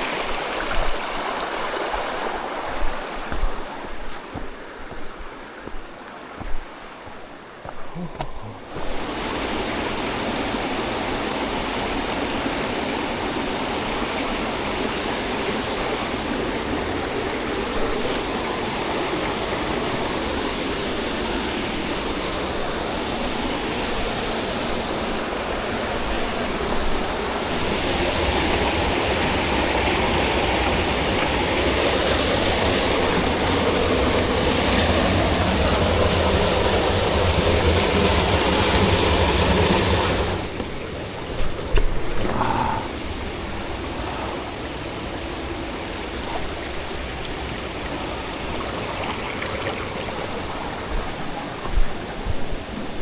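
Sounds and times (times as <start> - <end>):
waterfall and stream rushing: 0.0 - 53.0.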